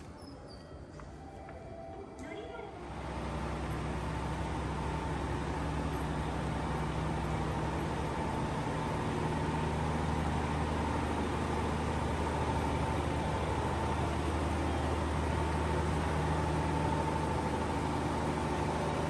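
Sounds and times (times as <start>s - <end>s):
diesel engines idling: 0.0s - 19.0s
faint steady whine: 0.0s - 19.0s.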